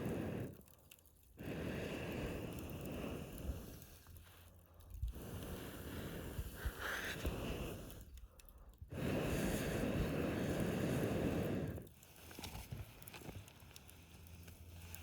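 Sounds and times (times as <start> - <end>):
air blown onto campfire: 0.0 - 15.0
fire crackling: 0.0 - 15.0.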